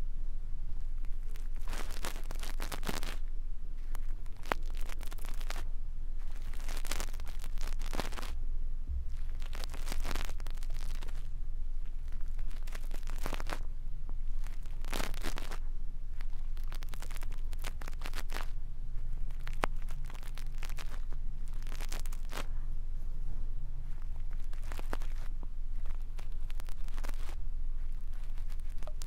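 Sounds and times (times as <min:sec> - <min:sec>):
steady low hum: 0:00.0 - 0:29.0
brush scratching on microphone: 0:00.8 - 0:08.4, 0:09.1 - 0:11.3, 0:14.3 - 0:29.0.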